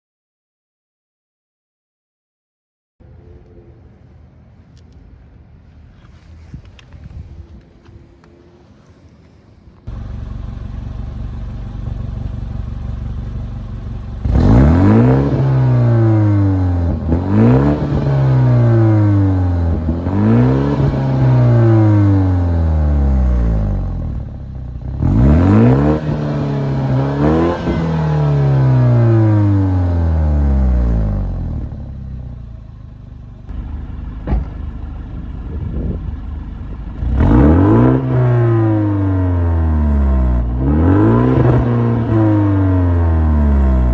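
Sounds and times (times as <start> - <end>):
car engine idling and revving: 3.0 - 43.9.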